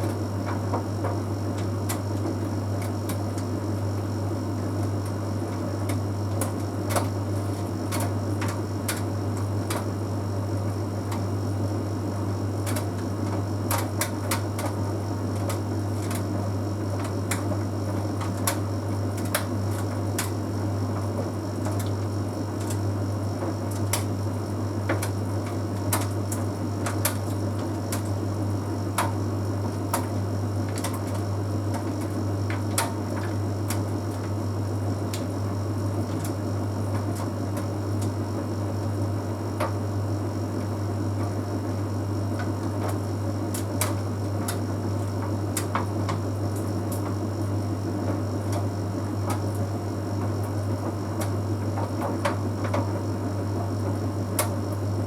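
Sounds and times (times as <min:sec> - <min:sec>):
tumble dryer humming and whirring: 0:00.0 - 0:21.5, 0:22.2 - 0:55.0.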